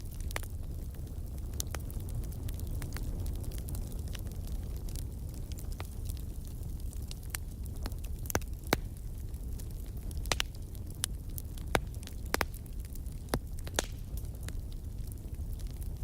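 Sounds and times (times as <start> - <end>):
low rumble of flames: 0.0 - 16.0
wood fire popping and snapping: 0.0 - 16.0.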